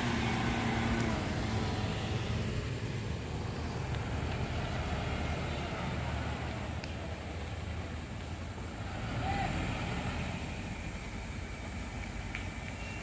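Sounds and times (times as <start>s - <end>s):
car engine pulling uphill: 0.0s - 13.0s
low engine rumble: 0.0s - 13.0s.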